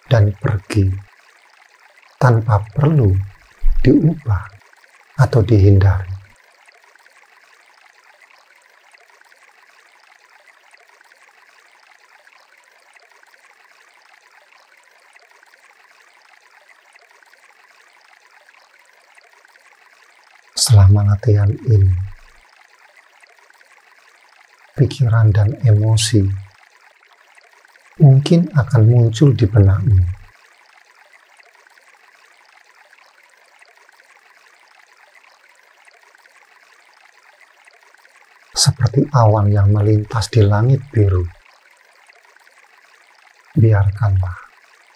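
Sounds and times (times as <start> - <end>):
flowing water: 0.0 - 44.9.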